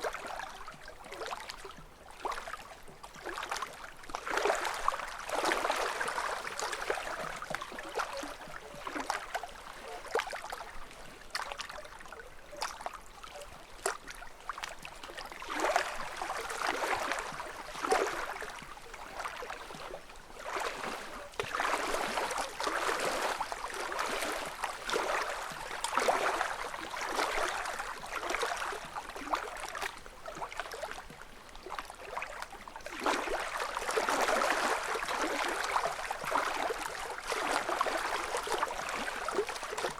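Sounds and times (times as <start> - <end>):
lake ripples lapping on shore: 0.0 - 39.9
small water splashes: 0.0 - 39.9.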